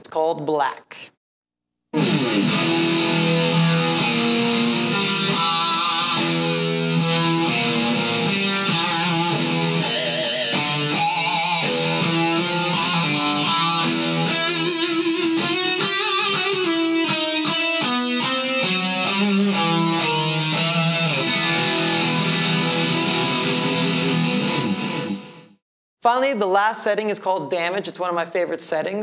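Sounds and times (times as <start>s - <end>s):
distorted electric guitar: 2.0s - 25.6s.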